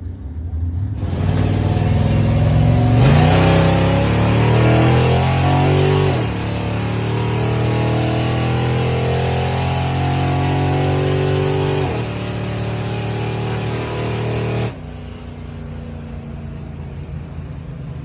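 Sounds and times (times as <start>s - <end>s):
loud car engine running: 0.0s - 18.0s.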